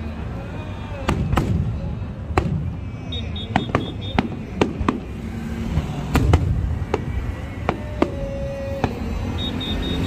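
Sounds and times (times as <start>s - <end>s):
fireworks bursting with sharp bangs: 1.0s - 10.0s.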